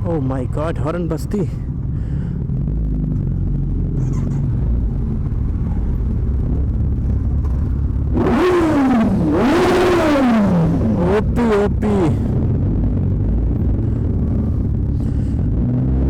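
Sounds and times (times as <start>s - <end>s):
motorcycle engines idling: 0.0s - 15.7s
motorcycle engine revving: 0.0s - 16.0s.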